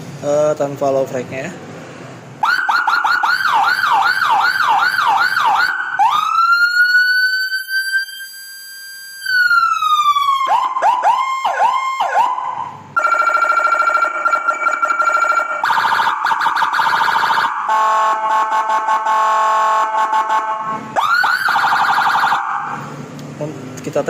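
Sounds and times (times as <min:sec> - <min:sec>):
electronic siren sweeping and wailing: 0:02.4 - 0:23.0.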